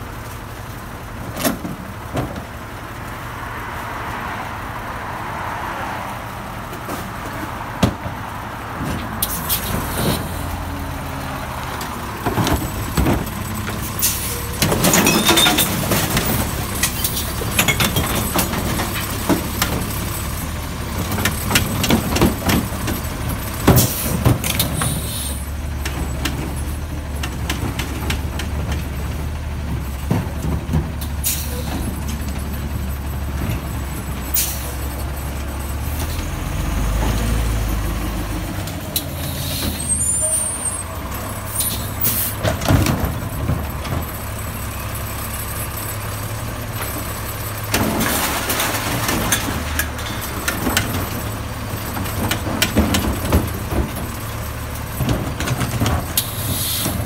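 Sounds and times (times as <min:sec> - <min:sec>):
truck engine running: 0:06.2 - 0:57.0
load clattering and banging: 0:06.7 - 0:57.0.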